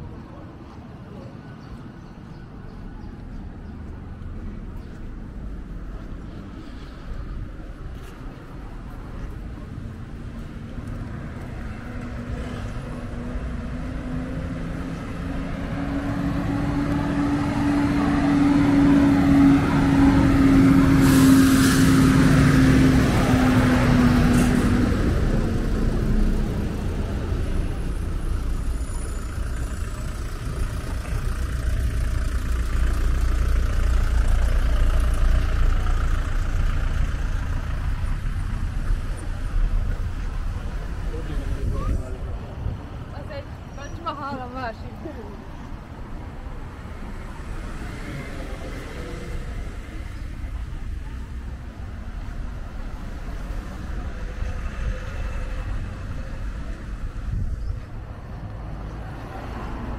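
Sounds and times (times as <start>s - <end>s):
vehicle low rumble: 0.0s - 59.9s
vehicle engine passing: 3.3s - 43.7s, 45.4s - 59.9s.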